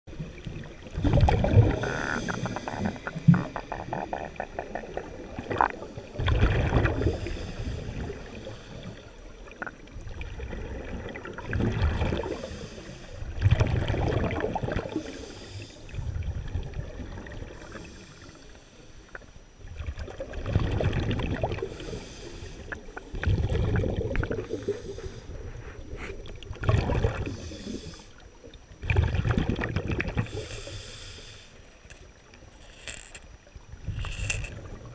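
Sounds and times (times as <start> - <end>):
exhaled bubbles rumbling: 0.1 - 15.2, 15.8 - 18.0, 19.6 - 30.6, 33.4 - 34.9
underwater water noise: 0.1 - 34.9.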